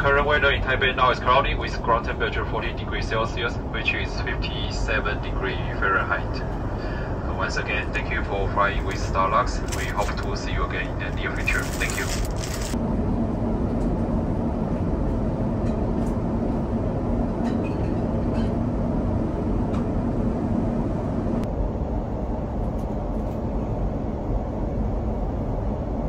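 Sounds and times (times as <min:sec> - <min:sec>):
airliner cabin noise: 0:00.0 - 0:26.0
faint steady hum: 0:00.0 - 0:26.0.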